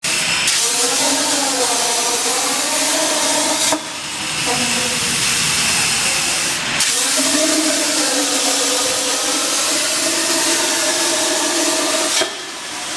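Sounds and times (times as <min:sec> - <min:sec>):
plasma torch hissing: 0:00.1 - 0:12.9.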